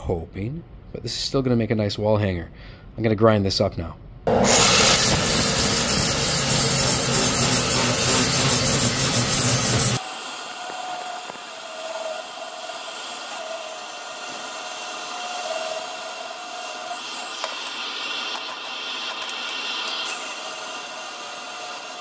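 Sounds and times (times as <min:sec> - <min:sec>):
angle grinder grinding metal: 0:04.3 - 0:22.0.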